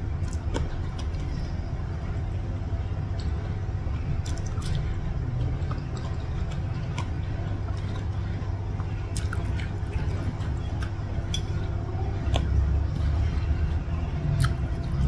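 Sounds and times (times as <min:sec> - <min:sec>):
person chewing wetly: 0:00.0 - 0:15.0
steady low hum: 0:00.0 - 0:15.0.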